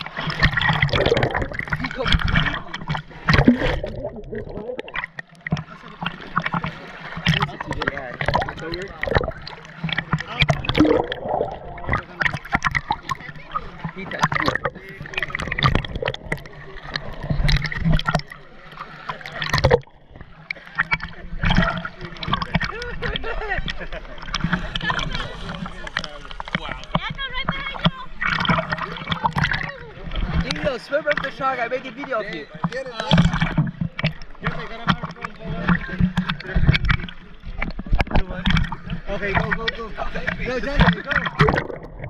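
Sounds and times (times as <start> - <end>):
underwater gurgle: 0.0 - 42.0
water splashing against camera: 0.0 - 42.0.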